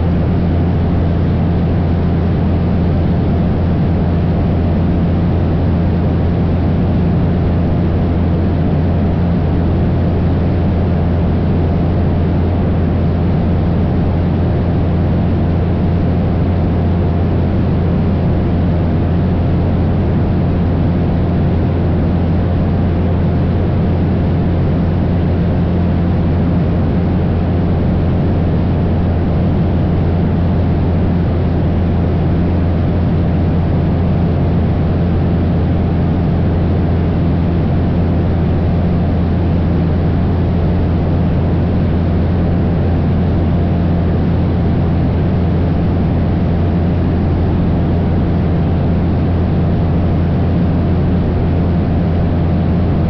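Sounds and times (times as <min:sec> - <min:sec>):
light plane engine droning: 0:00.0 - 0:53.0.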